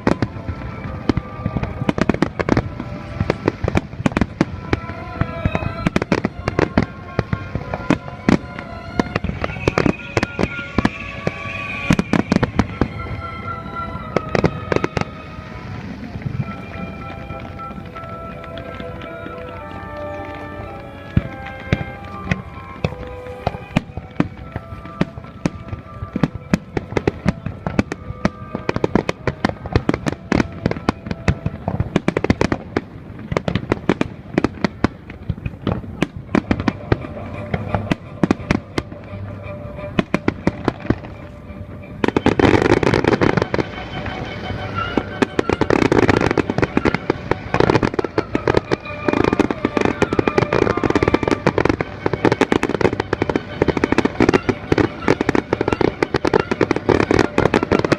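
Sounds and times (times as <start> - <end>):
fireworks bangs and crackles: 0.0 - 57.9
music playing: 0.0 - 57.9.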